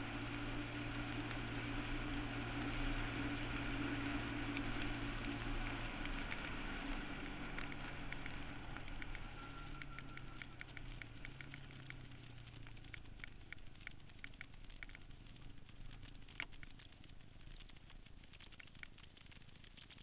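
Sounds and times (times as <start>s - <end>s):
muffled engine at low revs: 0.0s - 20.0s
light ticks: 0.2s - 20.0s.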